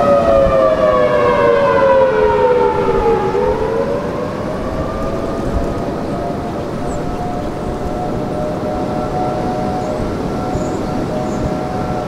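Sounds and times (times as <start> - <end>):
wavering siren: 0.0 - 12.0
wind on microphone: 0.0 - 12.0.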